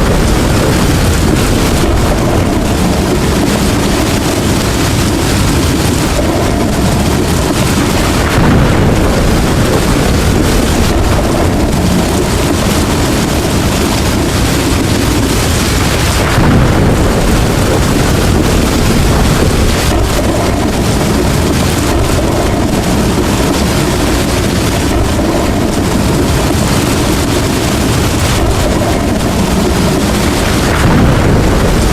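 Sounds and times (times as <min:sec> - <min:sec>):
heavy rain: 0:00.0 - 0:31.9
thunder rumbling: 0:00.0 - 0:31.9
wind: 0:00.0 - 0:31.9.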